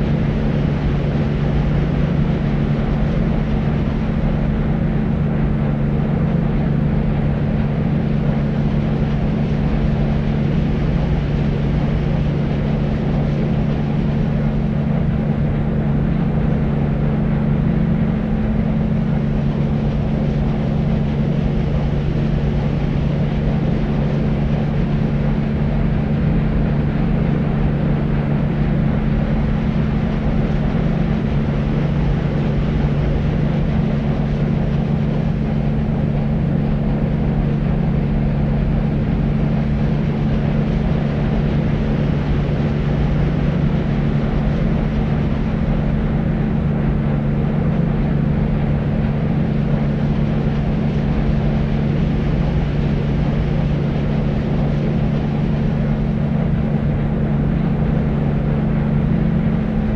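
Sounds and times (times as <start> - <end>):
constant low hum: 0.0 - 59.9
low rumbling white noise: 0.0 - 59.9.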